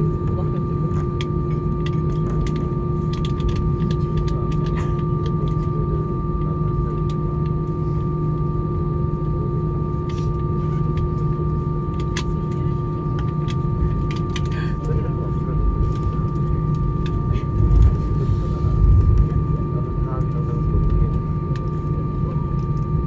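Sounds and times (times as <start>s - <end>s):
airliner cabin rumble: 0.0s - 23.0s
thin high engine whine: 0.0s - 23.0s.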